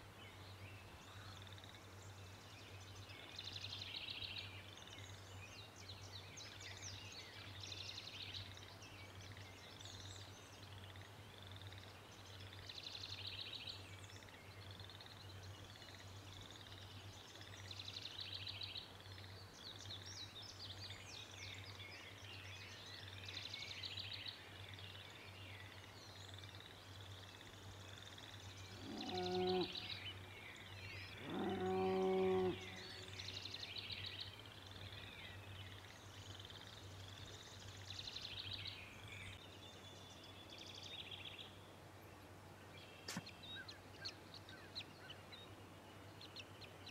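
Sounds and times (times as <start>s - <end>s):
birds chirping and trilling: 0.3s - 46.9s.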